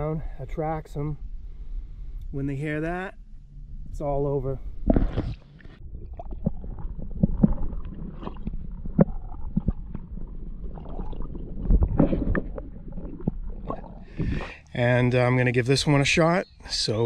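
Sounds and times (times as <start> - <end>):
low rumble: 0.0 - 15.5.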